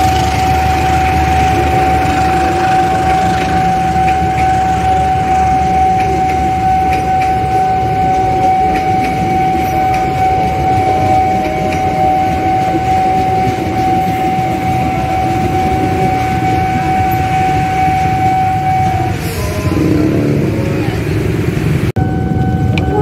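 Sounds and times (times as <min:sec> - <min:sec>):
high-pitched whine: 0:00.0 - 0:23.0
train coaches rumbling on rails: 0:00.0 - 0:23.0.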